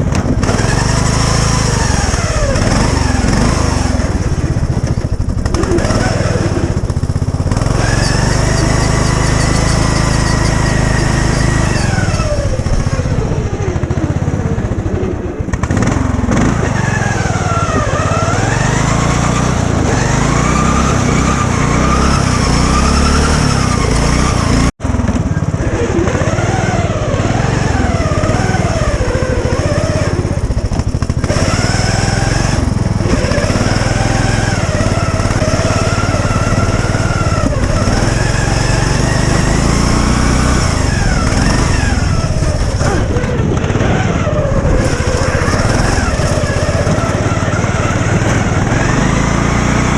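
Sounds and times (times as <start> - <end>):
lawn mower engine revving: 0.0 - 49.9.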